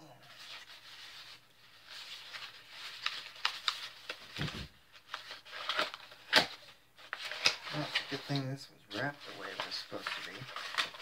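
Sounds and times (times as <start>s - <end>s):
paper wrapping crinkling: 0.3s - 11.0s.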